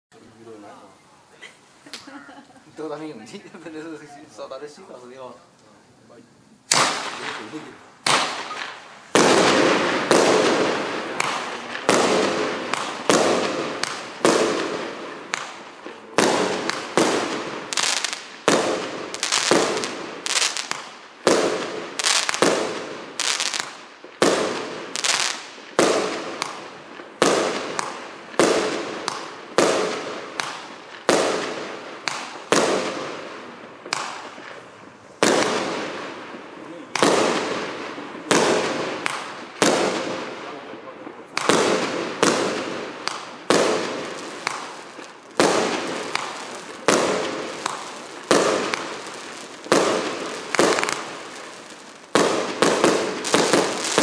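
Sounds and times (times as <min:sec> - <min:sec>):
fireworks cake bangs: 0:06.7 - 0:54.0.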